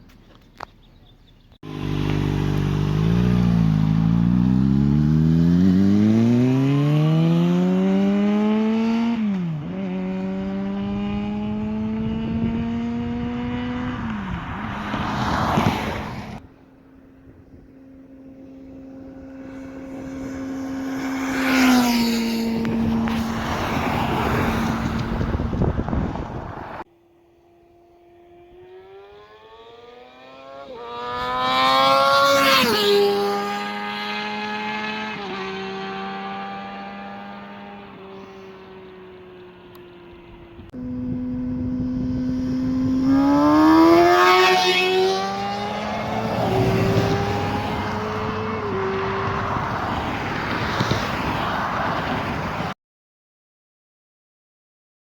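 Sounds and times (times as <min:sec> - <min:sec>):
motorcycle accelerating past: 0:01.6 - 0:16.4, 0:17.0 - 0:52.8.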